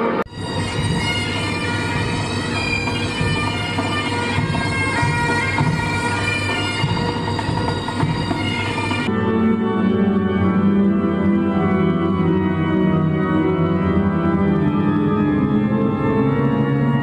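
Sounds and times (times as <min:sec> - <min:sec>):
steady drone: 0:00.0 - 0:17.0
wind instrument melody: 0:00.0 - 0:17.0.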